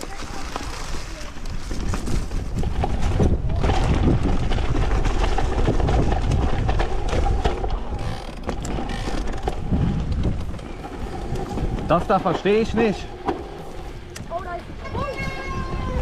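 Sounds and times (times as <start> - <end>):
bike rattling and knocking: 0.0 - 16.0
tyres rolling over dirt: 0.0 - 16.0
wind buffeting microphone: 0.0 - 16.0.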